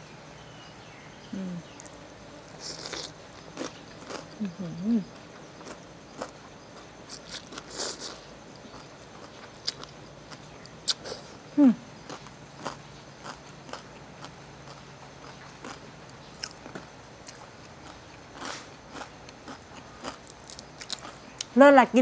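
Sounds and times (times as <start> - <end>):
appreciative hum while eating: 0.0 - 22.0
wet chewing with crunches: 2.6 - 21.6.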